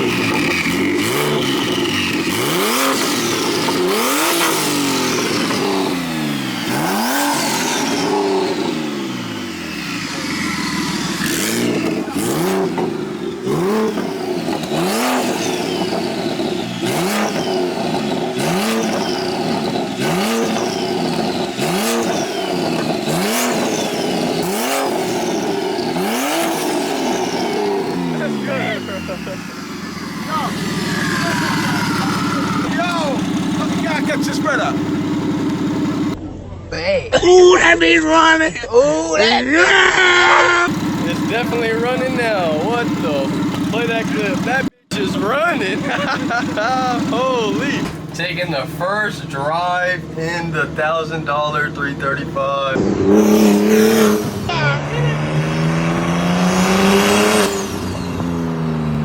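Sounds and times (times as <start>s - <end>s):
car engine revving: 0.0s - 37.0s, 39.7s - 59.0s.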